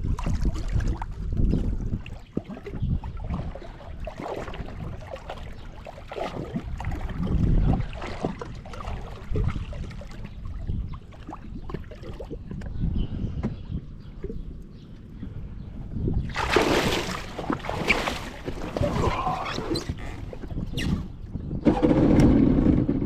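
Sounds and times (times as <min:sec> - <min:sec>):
water splashing against hull: 0:00.0 - 0:15.1, 0:15.8 - 0:21.5.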